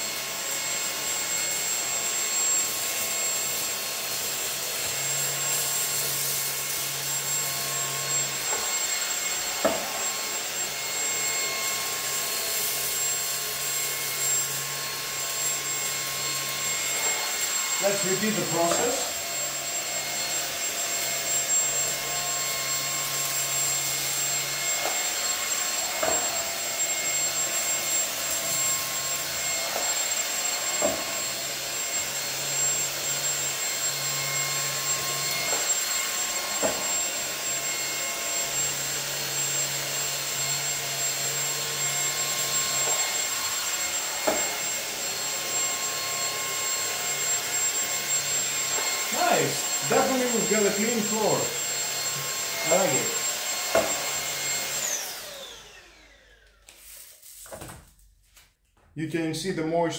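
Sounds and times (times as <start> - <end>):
stick vacuum motor whine: 0.0 - 57.4
mop head on tile floor: 5.0 - 38.5, 39.6 - 58.9.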